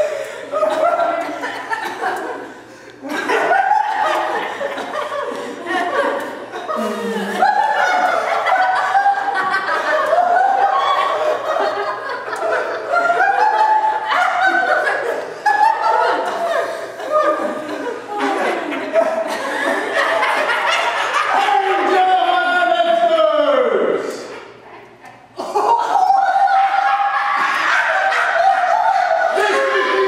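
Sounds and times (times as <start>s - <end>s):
people laughing: 0.0s - 23.4s, 24.1s - 30.0s.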